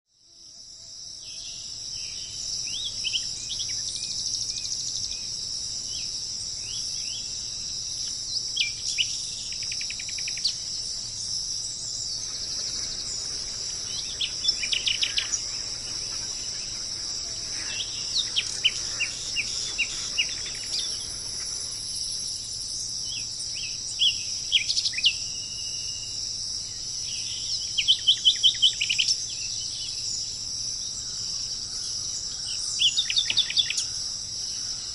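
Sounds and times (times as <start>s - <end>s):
high-pitched insect drone: 0.2s - 34.9s
bird chirping: 1.2s - 34.9s.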